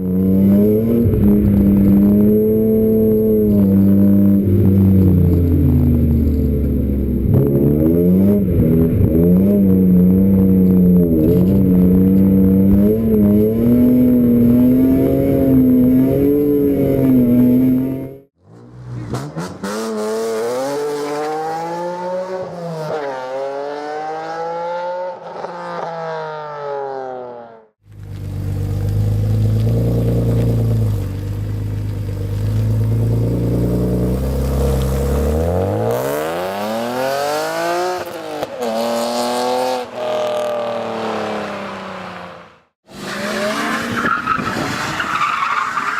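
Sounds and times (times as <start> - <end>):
car engines revving hard: 0.0 - 27.4, 28.0 - 45.0.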